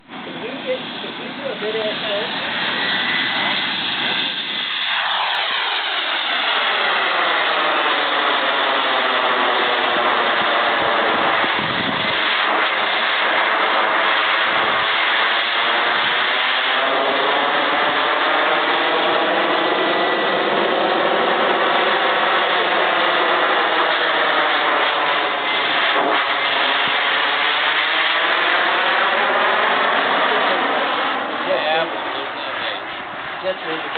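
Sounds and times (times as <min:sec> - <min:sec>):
model jet engine roar and whine: 0:00.0 - 0:33.9.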